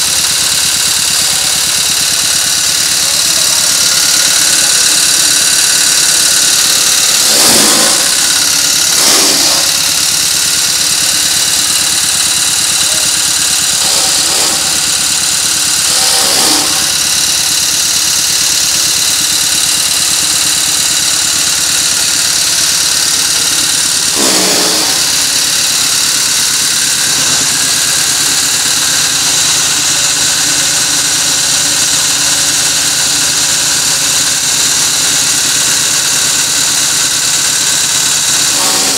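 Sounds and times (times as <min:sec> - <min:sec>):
generator engine running: 0:00.0 - 0:38.9
straw going through cutter: 0:00.0 - 0:38.9.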